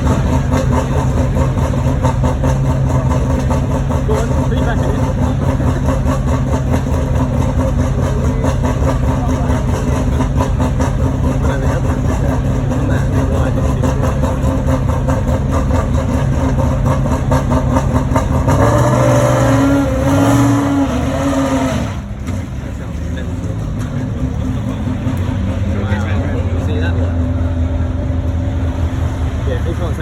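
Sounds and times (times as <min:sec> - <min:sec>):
car engine revving: 0:00.0 - 0:30.0
racing car engines burbling: 0:00.0 - 0:30.0.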